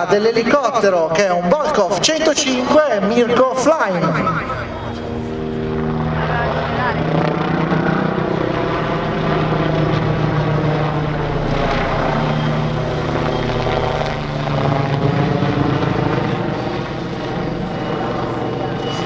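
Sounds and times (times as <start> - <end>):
aircraft engine drone: 0.0 - 19.0.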